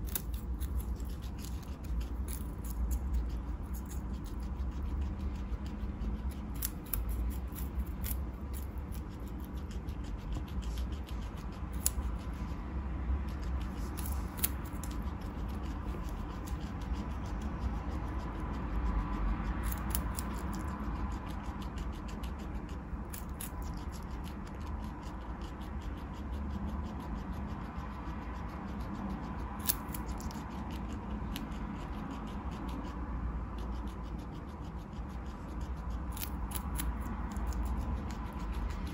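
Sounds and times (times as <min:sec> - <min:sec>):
guinea pig crunching carrot: 0:00.0 - 0:38.9.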